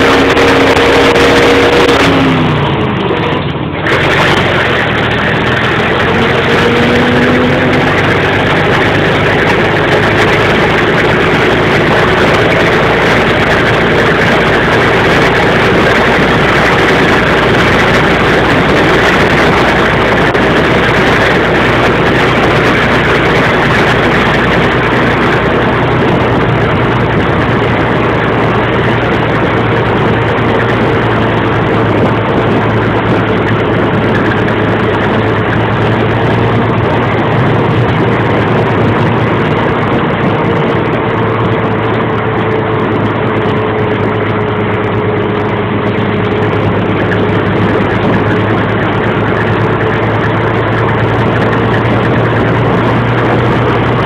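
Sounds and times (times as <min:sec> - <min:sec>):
fire engine running: 0:00.0 - 0:54.0
rush of road noise: 0:00.0 - 0:54.0.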